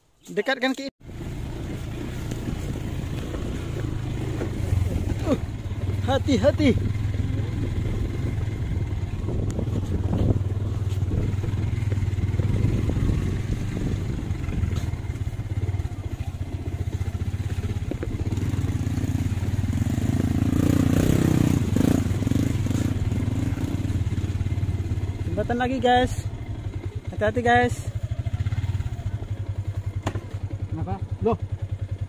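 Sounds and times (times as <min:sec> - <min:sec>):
small motorcycle engine running: 0:01.0 - 0:32.0.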